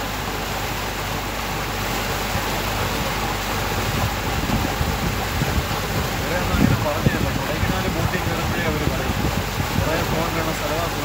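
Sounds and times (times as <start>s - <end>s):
boat engine humming: 0.0s - 11.0s
rush of wind and water: 0.0s - 11.0s.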